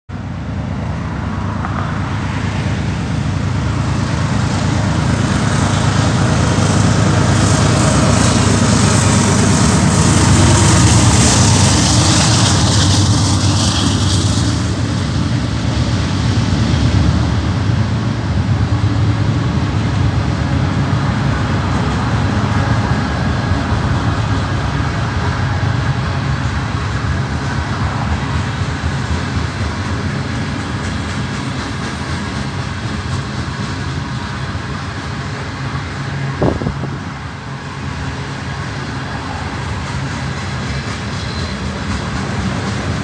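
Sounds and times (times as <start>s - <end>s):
freight cars rolling on rails: 0.1s - 43.0s
locomotive engines rumbling: 0.1s - 43.0s.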